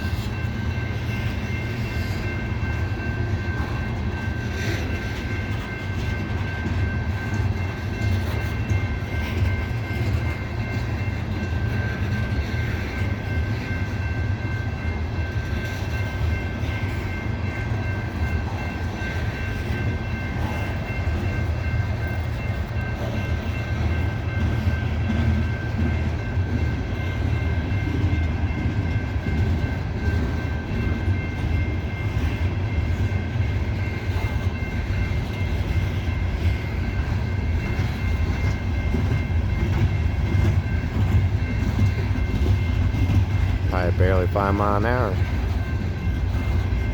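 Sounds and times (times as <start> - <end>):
freight train cars rumbling past: 0.0 - 46.9.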